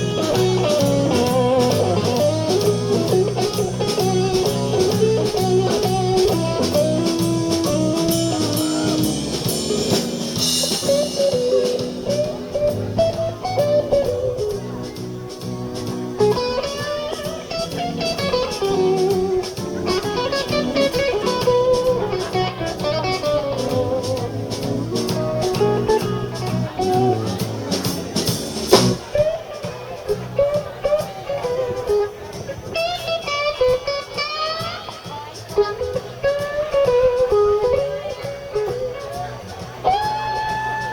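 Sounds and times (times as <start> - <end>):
bass guitar: 0.0 - 40.9
blues-rock band playing: 0.0 - 40.9
drum kit: 0.0 - 40.9
electric guitar lead: 0.0 - 40.9.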